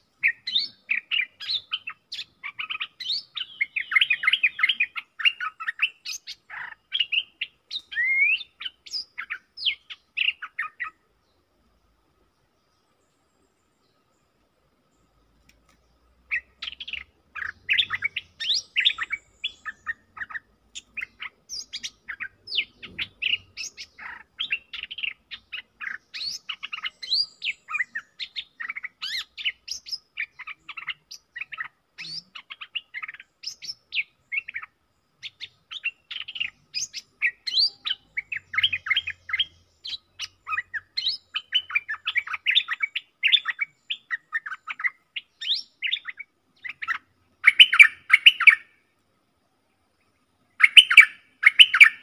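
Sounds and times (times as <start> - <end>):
birds chirping and warbling: 0.0 - 52.0.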